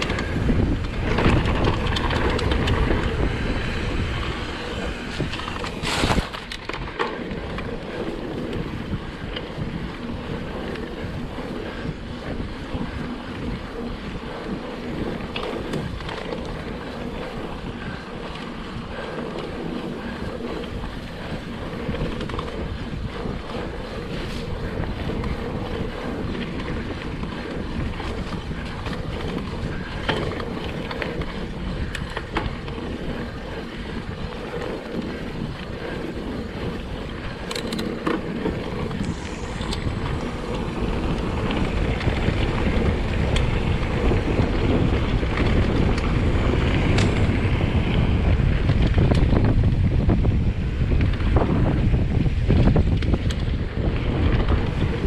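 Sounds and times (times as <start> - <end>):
bike rattling: 0.0 - 55.0
bike tyre rumble: 0.0 - 55.0
wind buffeting microphone: 0.0 - 55.0.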